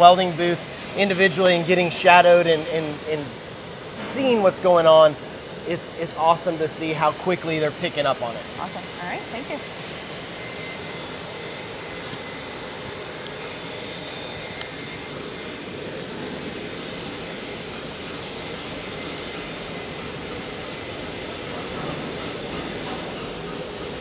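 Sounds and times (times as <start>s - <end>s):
ventilation roar: 0.0s - 24.0s.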